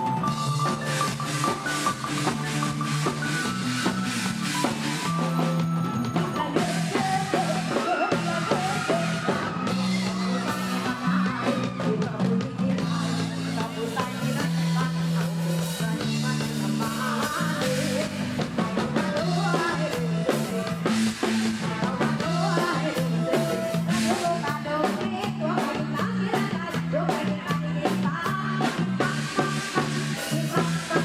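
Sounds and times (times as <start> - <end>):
bass line: 0.0 - 31.0
live pop band music: 0.0 - 31.0
person singing: 0.0 - 31.0.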